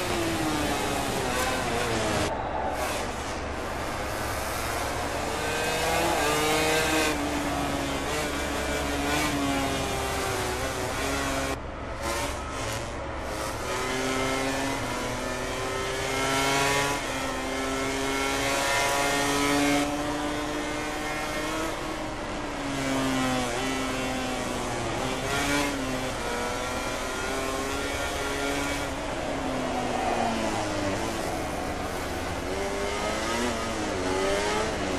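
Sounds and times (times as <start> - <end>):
racing motorcycle engines revving: 0.0 - 34.9.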